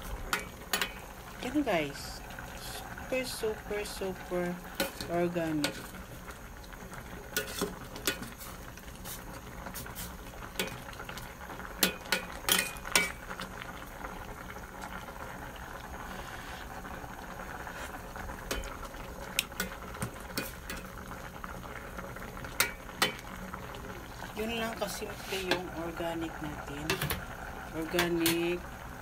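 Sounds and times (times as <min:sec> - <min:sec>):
soup boiling in a pot: 0:00.0 - 0:29.0.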